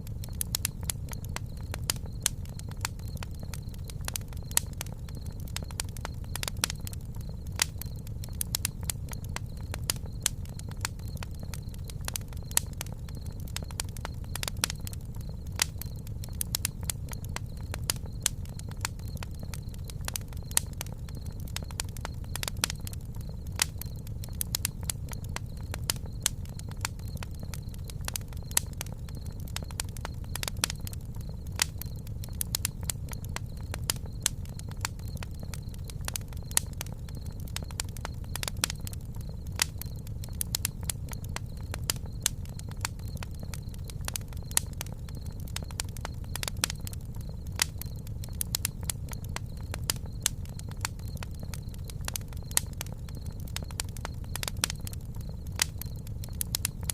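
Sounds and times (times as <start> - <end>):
low rumble of flames: 0.0 - 56.9
wood crackling and popping: 0.0 - 56.9.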